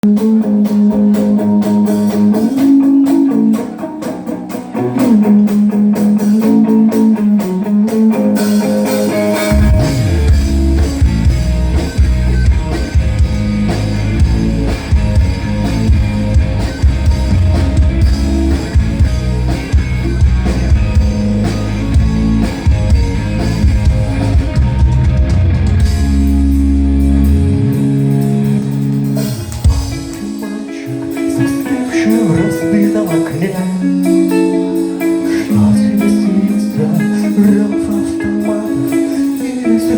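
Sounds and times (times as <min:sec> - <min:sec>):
bass guitar: 0:00.0 - 0:39.9
drums: 0:00.0 - 0:39.9
electric guitar line: 0:00.0 - 0:39.9.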